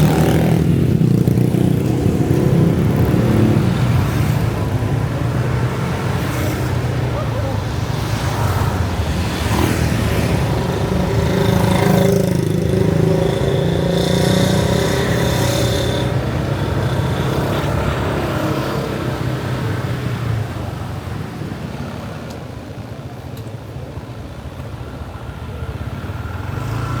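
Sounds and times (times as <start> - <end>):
traffic noise: 0.0 - 27.0.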